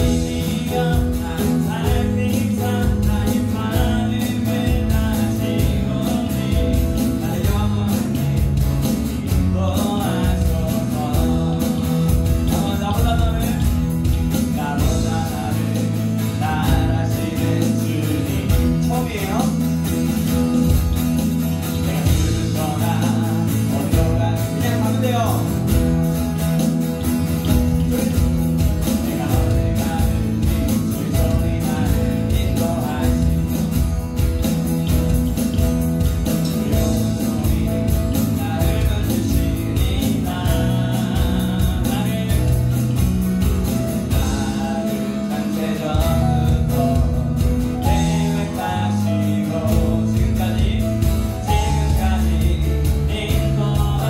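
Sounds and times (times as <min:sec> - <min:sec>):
person singing: 0:00.0 - 0:26.2, 0:27.5 - 0:54.0
live worship band playing: 0:00.0 - 0:54.0.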